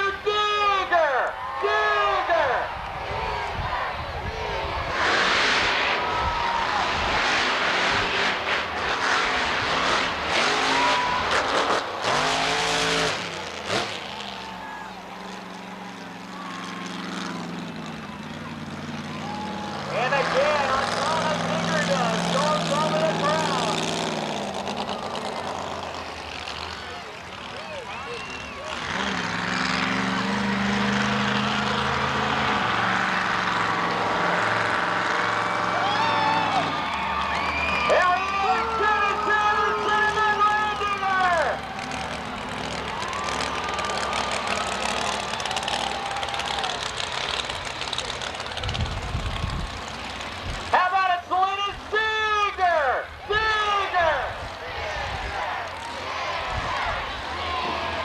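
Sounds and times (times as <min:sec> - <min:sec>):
monster truck engines revving: 0:00.0 - 0:58.0.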